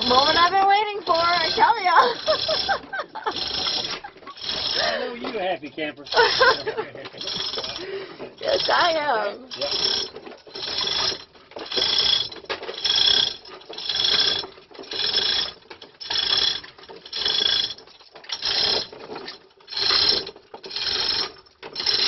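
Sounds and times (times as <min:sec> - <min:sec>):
metallic ratchet clicks: 0:00.0 - 0:04.8, 0:06.1 - 0:07.8, 0:08.4 - 0:22.0.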